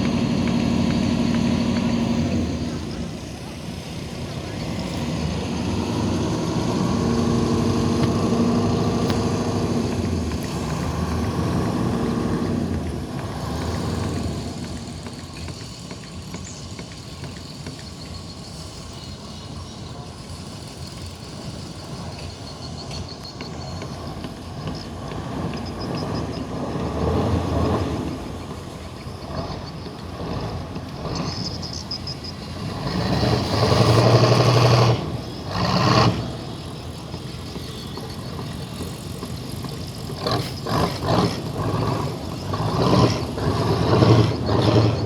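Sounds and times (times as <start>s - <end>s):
tugboat engine running: 0.0s - 45.0s.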